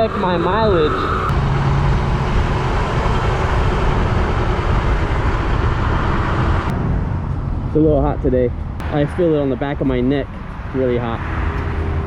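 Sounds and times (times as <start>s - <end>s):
road noise: 0.0s - 12.0s
wind rushing: 0.0s - 12.0s.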